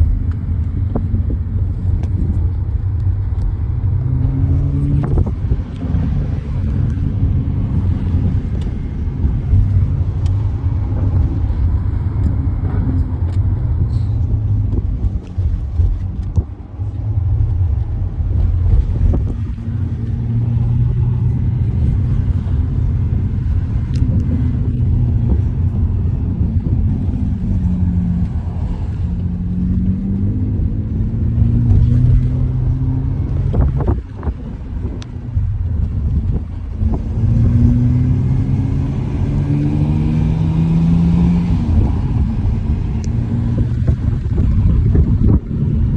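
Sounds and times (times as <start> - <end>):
car engine: 0.0 - 45.9
road rumble: 0.0 - 45.9.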